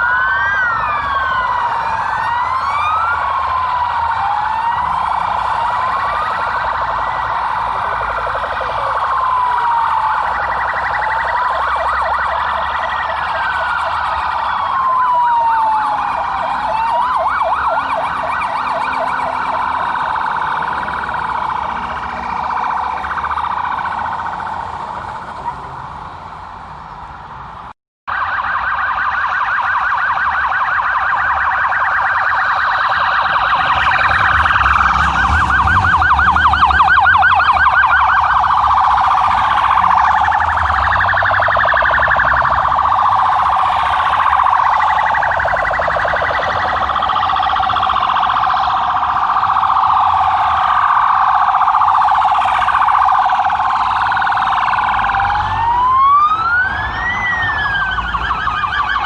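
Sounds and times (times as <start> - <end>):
police sirens warbling: 0.0 - 59.0.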